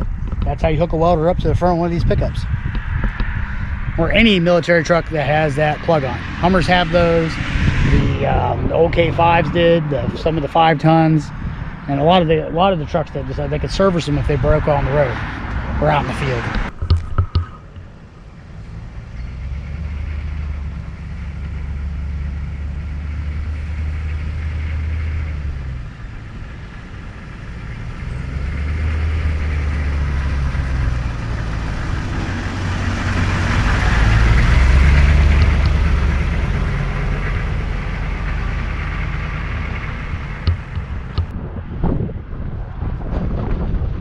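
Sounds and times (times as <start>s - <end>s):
diesel pickup driving by: 0.0s - 44.0s.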